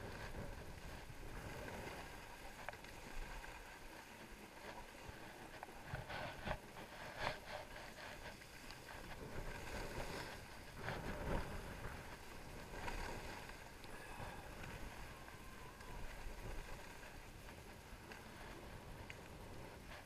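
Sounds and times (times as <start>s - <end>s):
skis scraping in turns: 0.0s - 20.0s
skis sliding on snow: 0.0s - 20.0s.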